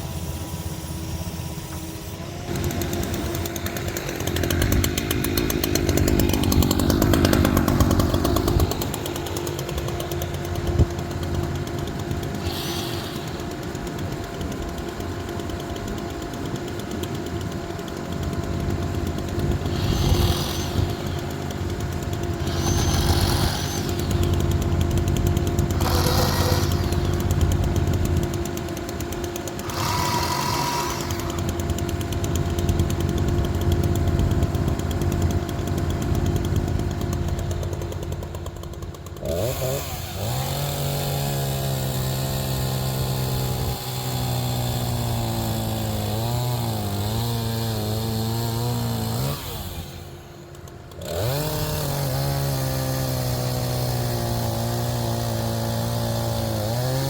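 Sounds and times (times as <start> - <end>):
chainsaw cutting log: 0.0 - 57.0
engine running: 0.0 - 57.0.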